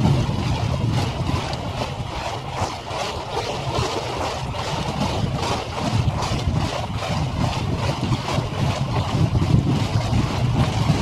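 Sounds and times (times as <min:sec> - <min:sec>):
low rumble: 0:00.0 - 0:11.0
water noise: 0:00.0 - 0:11.0
wind: 0:00.0 - 0:11.0.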